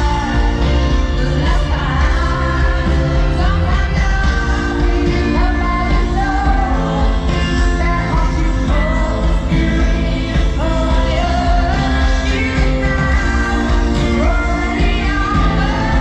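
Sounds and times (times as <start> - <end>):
loud band with heavy bass: 0.0 - 16.0
woman singing: 0.0 - 16.0.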